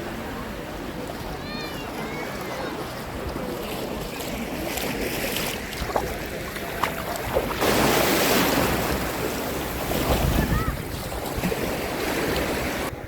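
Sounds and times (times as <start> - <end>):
sea waves washing on shore: 0.0 - 13.0.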